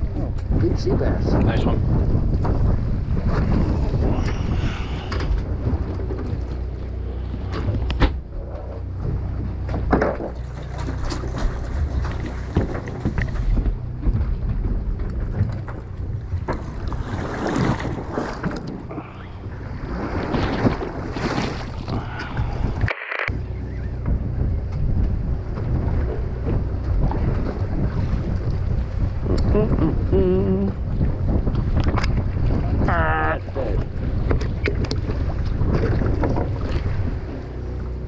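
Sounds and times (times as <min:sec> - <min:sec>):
boat engine humming: 0:00.0 - 0:38.0
wind buffeting microphone: 0:00.0 - 0:38.0.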